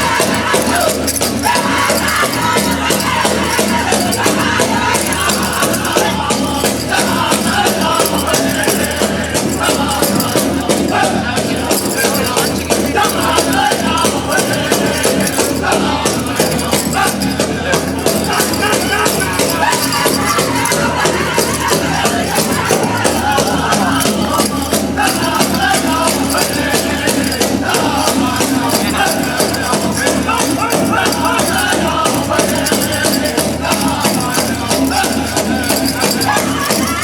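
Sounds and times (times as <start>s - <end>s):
music with fast percussion: 0.0s - 37.0s.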